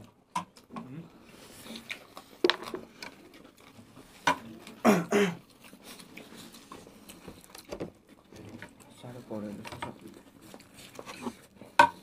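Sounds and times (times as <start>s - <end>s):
chewing and mouth clicks: 0.0s - 12.0s.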